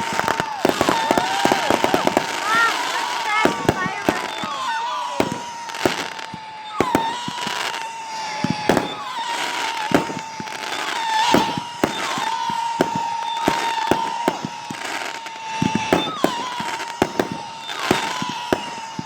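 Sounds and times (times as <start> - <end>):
fireworks bangs and pops: 0.0 - 19.0
fireworks crackling: 0.0 - 19.0
high whistle: 0.0 - 19.0.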